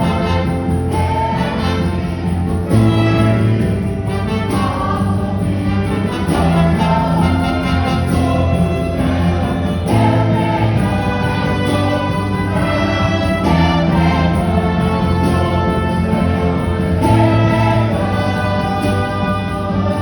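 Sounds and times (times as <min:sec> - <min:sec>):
choir singing: 0:00.0 - 0:20.0
instrumental accompaniment: 0:00.0 - 0:20.0.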